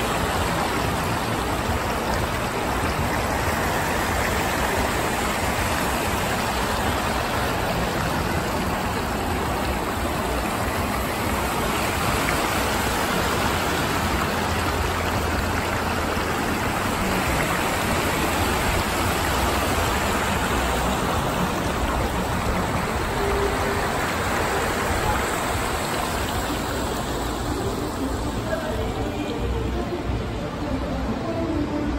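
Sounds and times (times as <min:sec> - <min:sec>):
fountain water rushing: 0:00.0 - 0:31.9.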